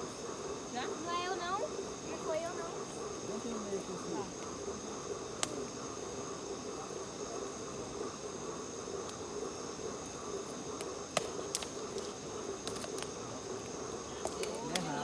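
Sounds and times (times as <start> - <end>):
bonfire crackles: 0.0 - 15.0
insects chirring: 0.0 - 15.0.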